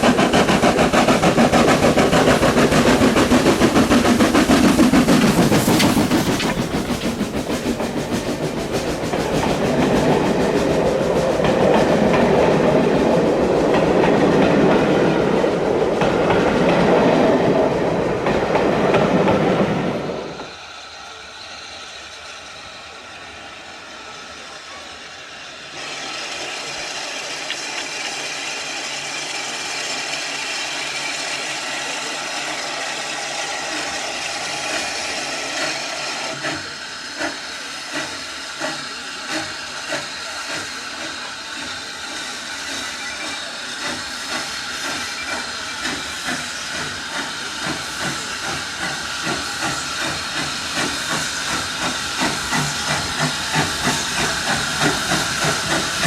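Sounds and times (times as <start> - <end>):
hiss of steam: 0.0 - 56.0
steam locomotive exhaust beats: 0.0 - 56.0.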